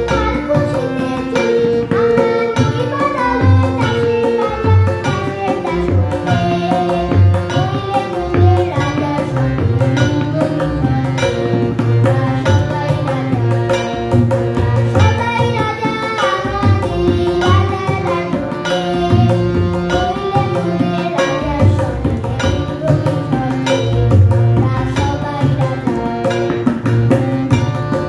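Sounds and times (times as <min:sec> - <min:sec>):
harmonium melody over drone: 0:00.0 - 0:28.0.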